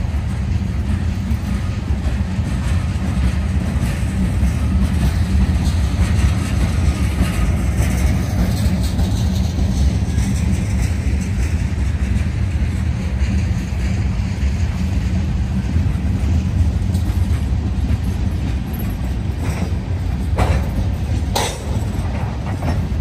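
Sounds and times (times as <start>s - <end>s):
steel wheels rumbling on rail: 0.0s - 23.0s.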